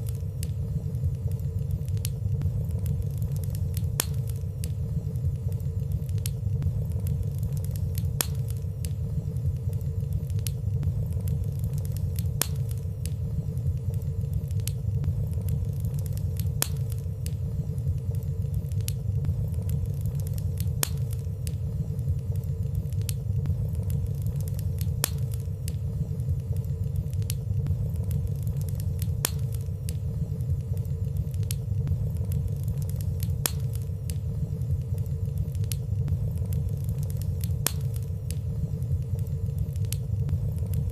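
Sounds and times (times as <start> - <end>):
fire rumbling: 0.0 - 40.9
wood fire crackling: 0.0 - 40.9.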